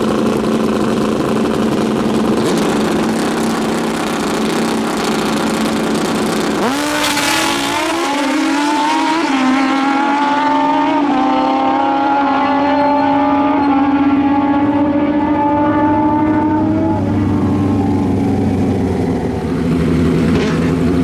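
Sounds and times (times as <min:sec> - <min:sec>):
motorcycles accelerating hard: 0:00.0 - 0:21.0.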